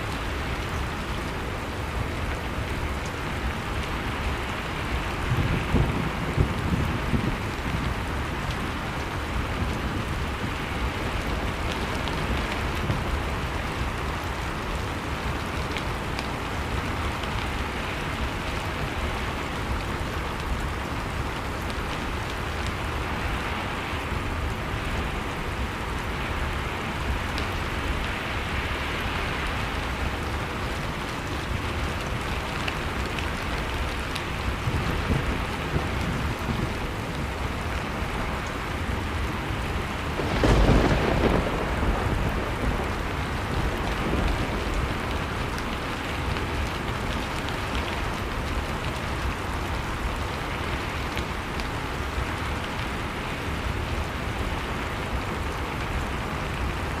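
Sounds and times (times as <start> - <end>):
wood fire crackling: 6.3 - 57.0.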